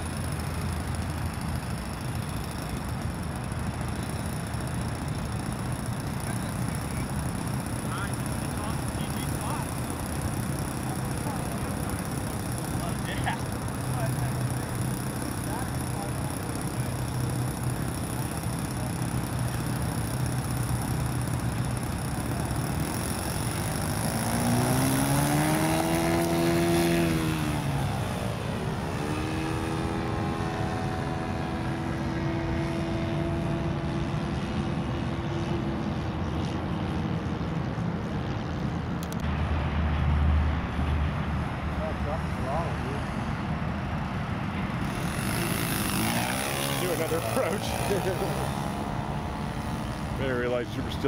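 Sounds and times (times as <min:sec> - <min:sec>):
model airplane engine droning: 0:00.0 - 0:51.0.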